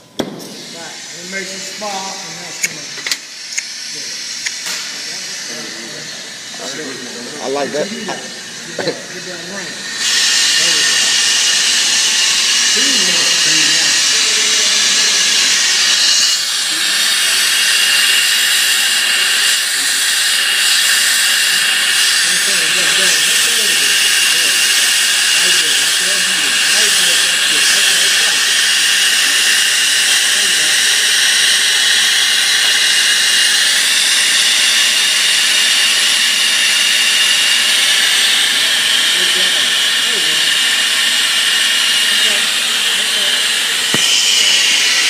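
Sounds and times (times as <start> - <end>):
torch flame hissing: 0.0 - 45.0.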